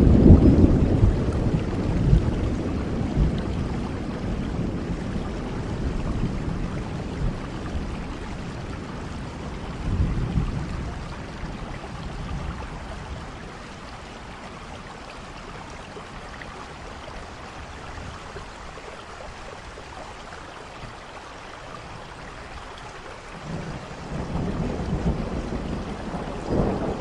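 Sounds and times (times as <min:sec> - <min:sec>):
low rumble of thunder: 0:00.0 - 0:19.6, 0:23.1 - 0:27.0
steady rain falling: 0:00.0 - 0:27.0.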